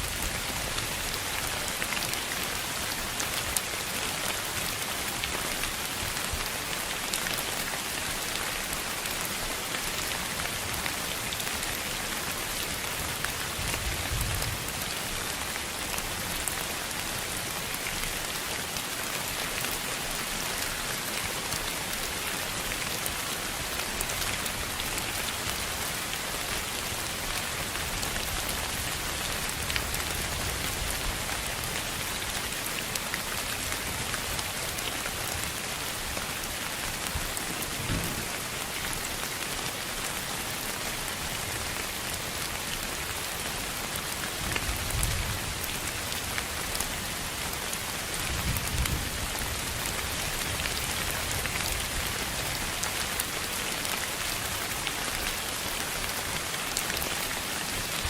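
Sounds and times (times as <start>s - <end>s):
rain-like hiss: 0.0s - 58.0s.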